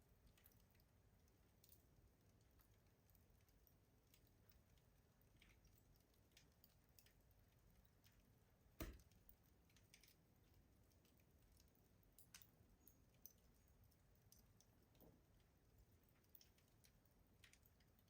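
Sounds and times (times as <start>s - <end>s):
wood fire pops and ticks: 0.0s - 18.0s.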